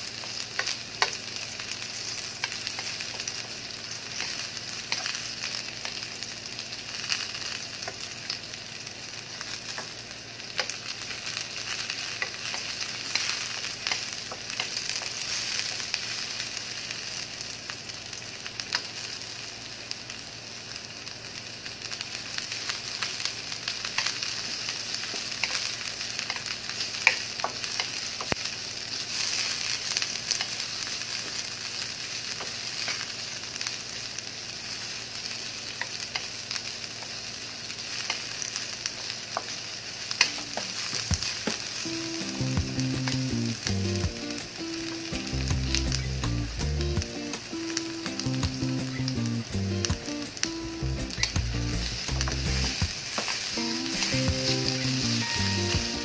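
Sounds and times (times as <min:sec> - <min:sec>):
onions sizzling in oil: 0:00.0 - 0:56.0.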